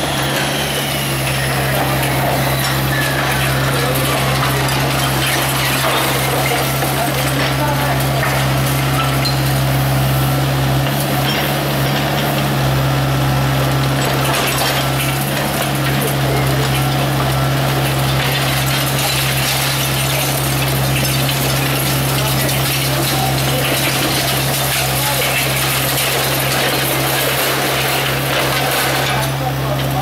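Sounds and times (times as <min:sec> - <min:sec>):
shear crushing concrete: 0:00.0 - 0:09.9, 0:13.5 - 0:30.0
concrete debris clinking: 0:00.0 - 0:30.0
excavator engine humming: 0:00.0 - 0:30.0.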